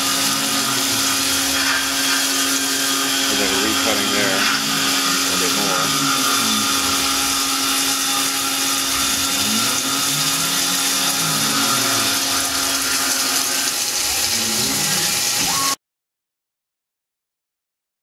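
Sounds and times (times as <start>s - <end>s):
coolant jetting and splashing: 0.0s - 15.8s
machine hum: 0.0s - 15.8s
milling machine tones: 0.0s - 15.8s.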